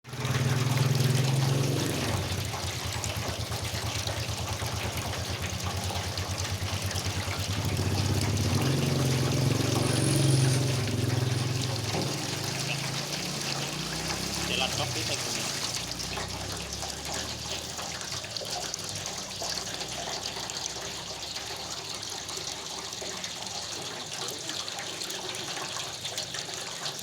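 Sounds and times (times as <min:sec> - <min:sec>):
water pouring and splashing: 0:00.0 - 0:27.0
electric water pump humming: 0:00.1 - 0:27.0.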